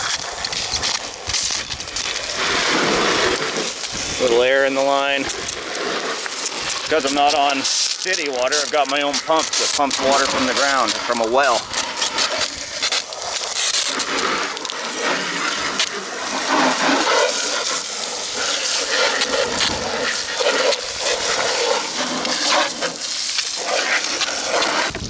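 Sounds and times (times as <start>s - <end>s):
hose spraying water: 0.0s - 25.0s.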